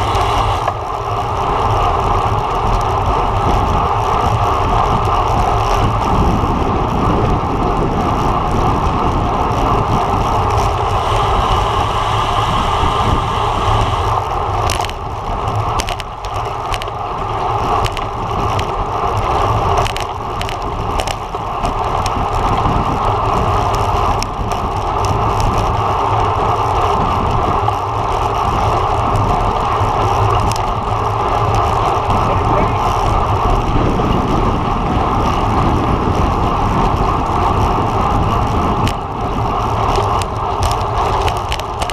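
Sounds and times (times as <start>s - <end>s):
wind rush: 0.0s - 2.4s, 5.8s - 25.7s, 28.4s - 41.9s
road rumble: 0.0s - 41.9s.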